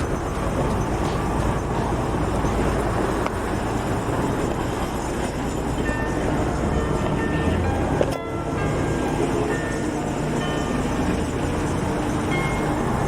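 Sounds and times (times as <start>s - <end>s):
road noise rumbling: 0.0s - 13.0s
vehicle driving: 0.0s - 13.0s.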